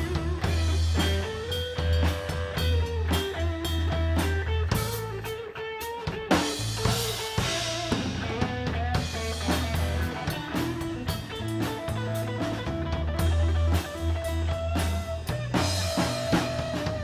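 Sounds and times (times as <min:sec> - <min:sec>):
drum kit beat: 0:00.0 - 0:17.0
guitar: 0:00.0 - 0:17.0
rock band playing: 0:00.0 - 0:17.0.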